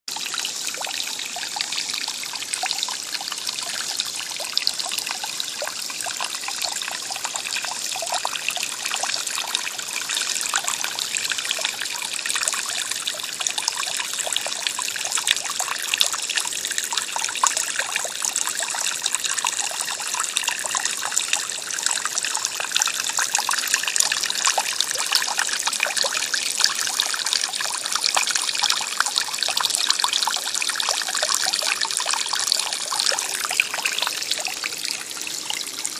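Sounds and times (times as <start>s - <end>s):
fountain water splashing into basin: 0.1s - 35.9s.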